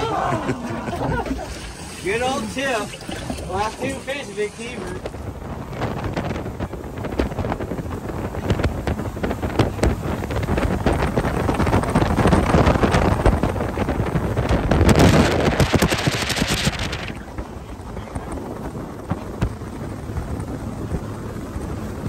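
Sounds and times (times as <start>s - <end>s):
boat outboard motors droning: 0.0s - 22.0s
wind buffeting microphone: 0.0s - 22.0s.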